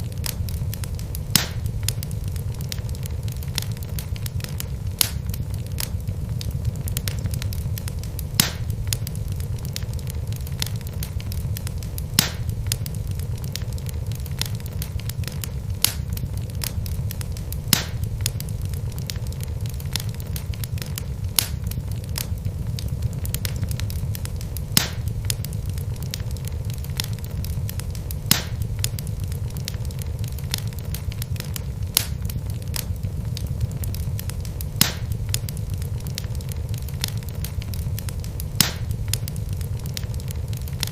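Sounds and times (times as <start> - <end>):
fire rumbling: 0.0 - 40.9
wood crackling: 0.0 - 40.9
wood popping: 0.0 - 40.9.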